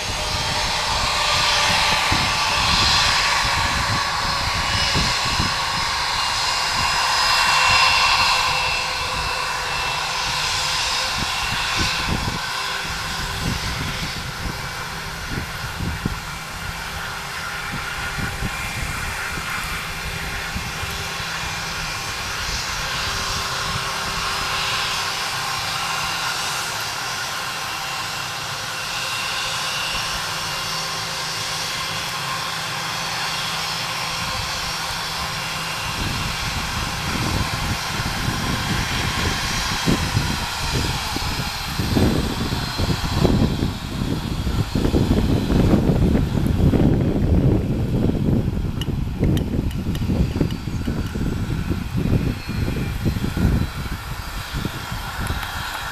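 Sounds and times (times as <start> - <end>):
jet engine whine: 0.0 - 55.9.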